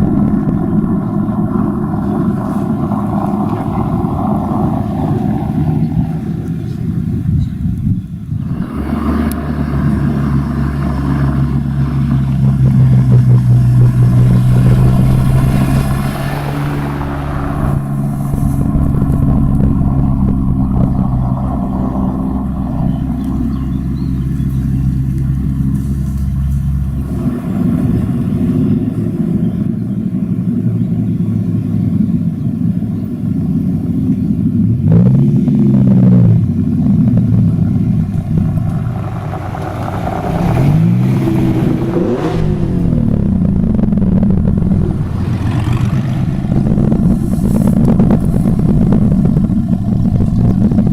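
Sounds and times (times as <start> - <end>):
car engines rumbling: 0.0 - 50.9.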